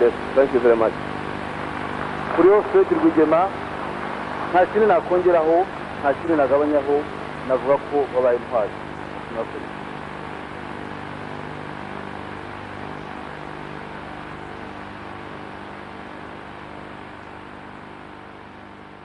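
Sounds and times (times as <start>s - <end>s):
low electrical hum: 0.0s - 19.0s
tape hiss: 0.0s - 19.0s.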